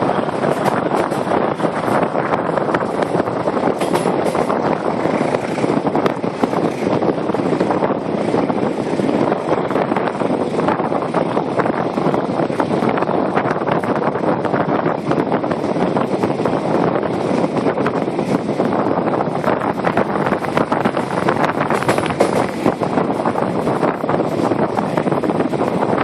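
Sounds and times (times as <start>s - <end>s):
train wheels clattering on rails: 0.0s - 26.0s
wind buffeting microphone: 0.0s - 26.0s.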